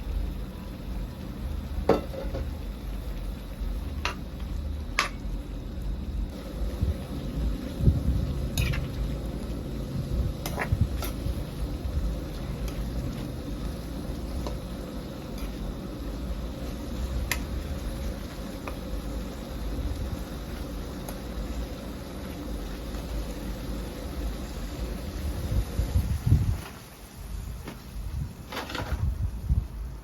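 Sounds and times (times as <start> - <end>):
food sizzling: 0.0 - 28.5.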